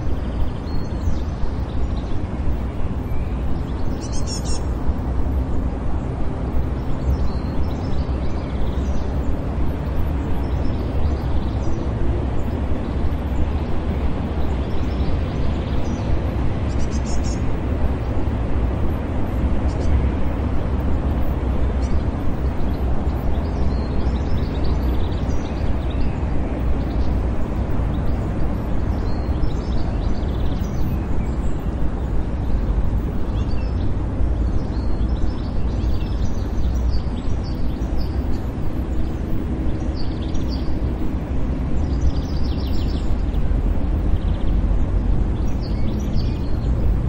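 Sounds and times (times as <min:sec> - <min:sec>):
small birds chirping: 0:00.0 - 0:47.0
distant traffic rumble: 0:01.2 - 0:47.0.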